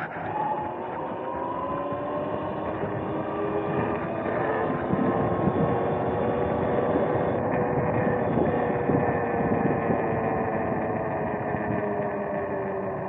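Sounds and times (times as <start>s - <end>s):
wind and road noise: 0.0s - 13.0s
electric dirt bike motor whining: 0.2s - 13.0s.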